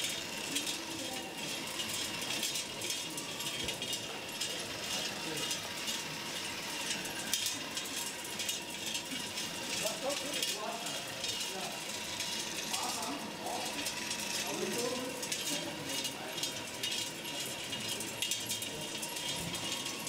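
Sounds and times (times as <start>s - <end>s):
chatter of many voices: 0.0s - 20.0s
small clicks and rattles: 0.0s - 20.0s.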